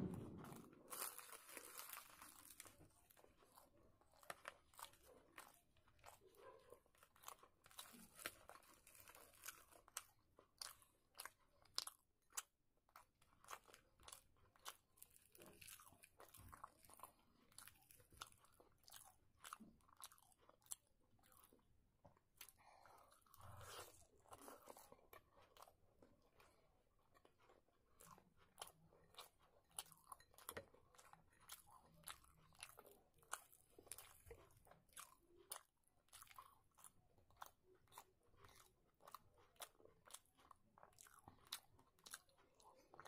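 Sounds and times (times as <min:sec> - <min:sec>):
person chewing: 0:00.0 - 0:43.0.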